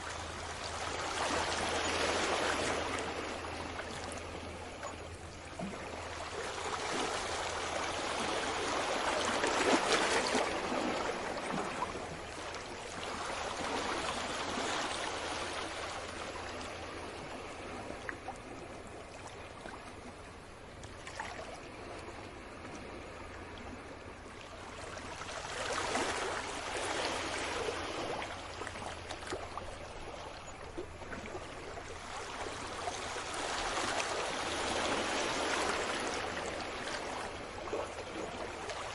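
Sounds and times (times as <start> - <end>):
sea waves washing in: 0.0 - 18.9, 19.7 - 38.9.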